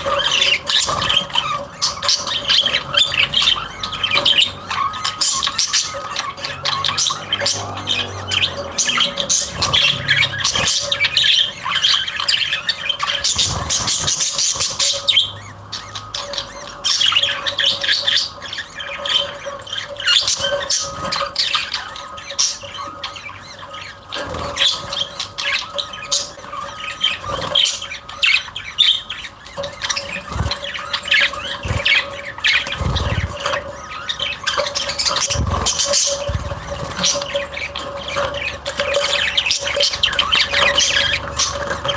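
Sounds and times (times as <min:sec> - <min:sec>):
small birds chirping and squawking: 0:00.0 - 0:41.9.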